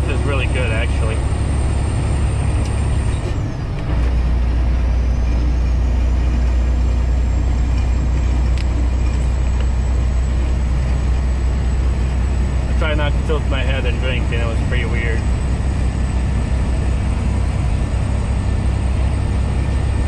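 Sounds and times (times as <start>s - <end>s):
diesel truck engine droning: 0.0s - 20.0s
road noise: 0.0s - 20.0s.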